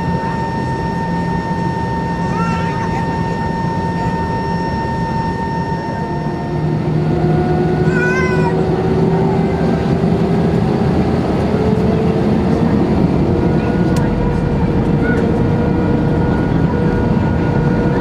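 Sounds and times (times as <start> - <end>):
jet engines spooling up: 0.0 - 18.0.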